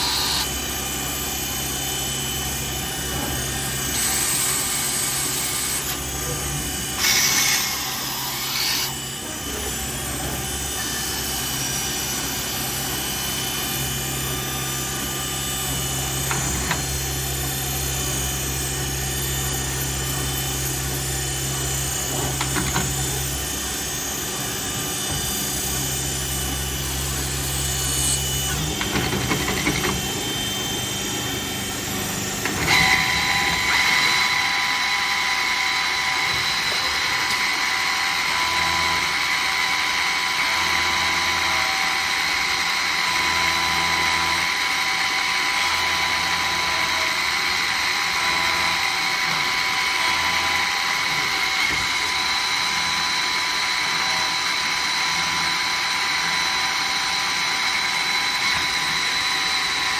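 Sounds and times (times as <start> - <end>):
high machine whine: 0.0 - 59.9
lathe machine running: 0.0 - 59.9.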